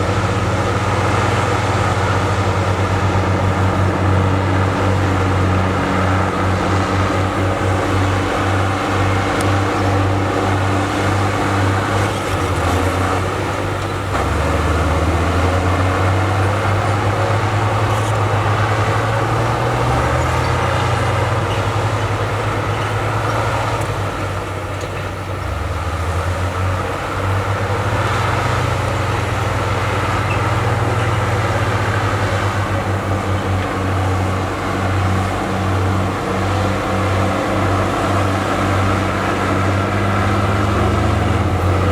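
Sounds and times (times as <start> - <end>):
heavy diesel engine working: 0.0 - 41.9.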